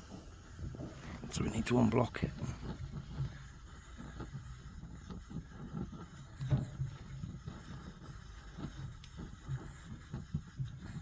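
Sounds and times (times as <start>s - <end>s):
stove burner rumbling: 0.0s - 11.0s.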